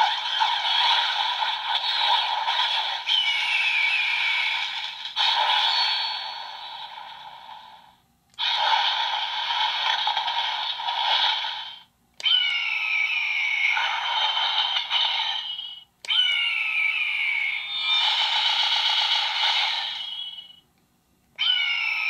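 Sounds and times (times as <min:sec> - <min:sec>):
toy sword electronic sound effects: 0:00.0 - 0:07.3, 0:08.4 - 0:20.6.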